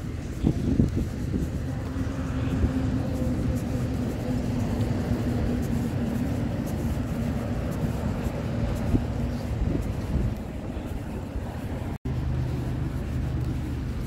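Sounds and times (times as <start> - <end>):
constant low rumble: 0.0 - 14.0
distant engine humming: 0.0 - 14.0.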